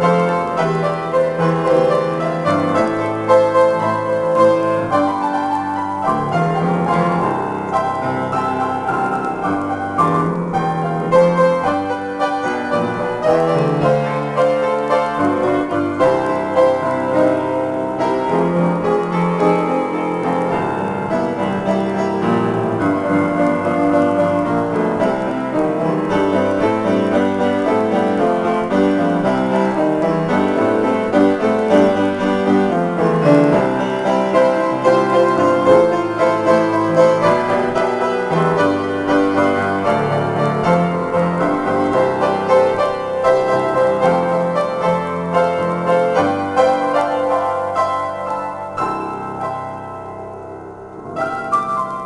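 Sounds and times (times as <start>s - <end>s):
grand piano improvisation: 0.0s - 52.0s.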